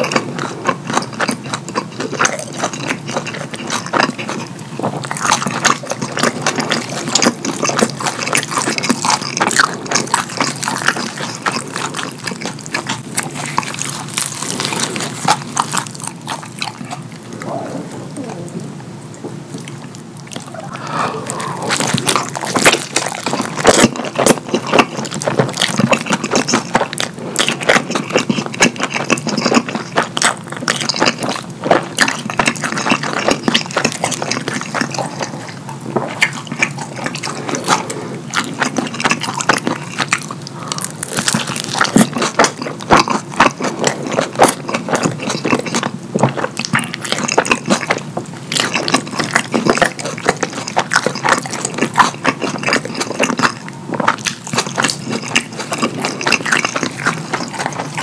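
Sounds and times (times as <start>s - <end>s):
wet chewing and mouth smacks: 0.0s - 17.5s, 18.2s - 58.0s.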